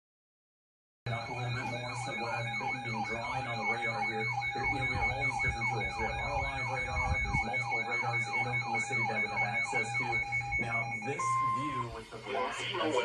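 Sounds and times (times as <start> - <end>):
electronic siren sweeping: 1.1 - 12.0
pulsing high beeps: 1.1 - 12.0.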